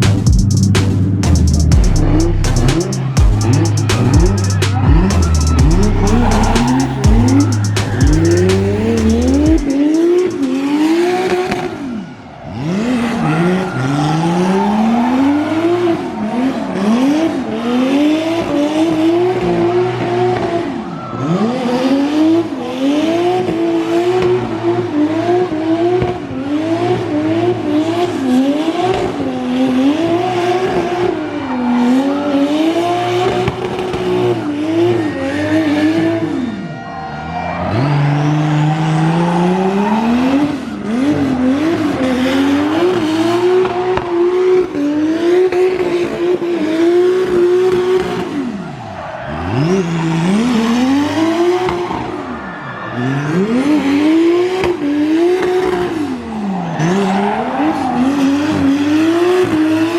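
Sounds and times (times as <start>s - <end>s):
car engine revving hard: 0.0s - 36.6s, 37.6s - 52.3s, 53.0s - 59.9s.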